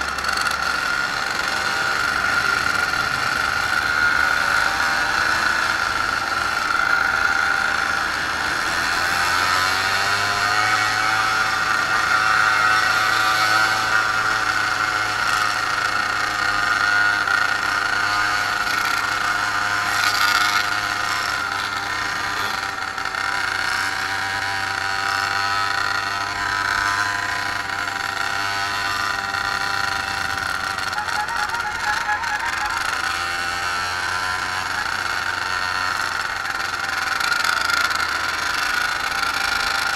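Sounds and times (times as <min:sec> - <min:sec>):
moped engines droning: 0:00.0 - 0:39.9.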